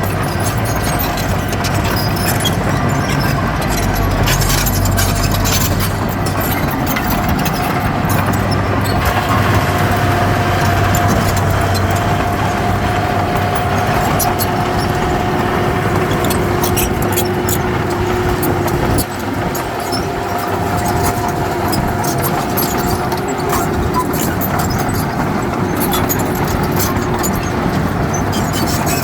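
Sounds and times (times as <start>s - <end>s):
clicks and clanks: 0.0s - 29.0s
diesel engine under load: 0.0s - 29.0s
high machine whine: 0.0s - 29.0s.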